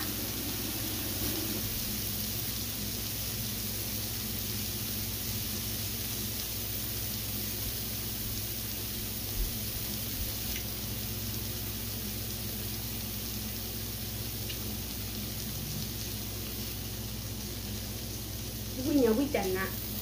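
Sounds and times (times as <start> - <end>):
low steady hum: 0.0 - 20.0
meat sizzling on grill: 0.0 - 20.0.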